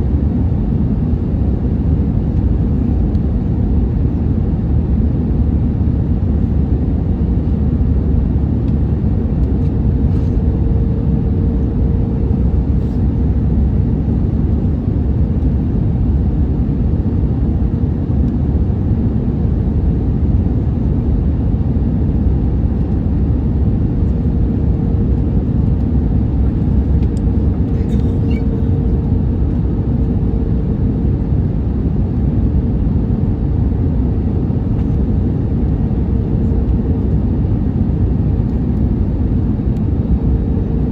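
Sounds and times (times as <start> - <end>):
airliner cabin rumble: 0.0 - 40.9
steady hum: 0.0 - 40.9.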